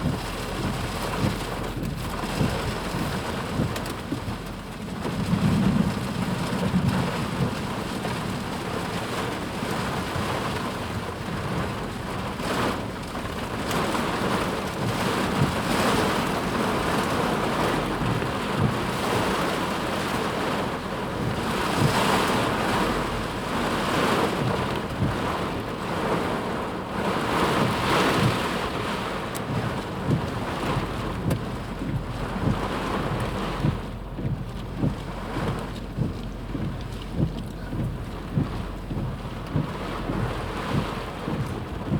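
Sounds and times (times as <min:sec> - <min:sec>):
dull low thumps: 0:00.0 - 0:41.9
torrent of rushing water: 0:00.0 - 0:41.9.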